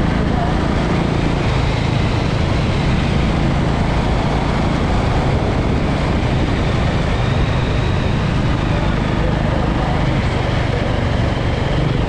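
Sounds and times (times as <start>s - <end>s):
motorcycle engine drone: 0.0s - 12.0s
wind noise on microphone: 0.0s - 12.0s.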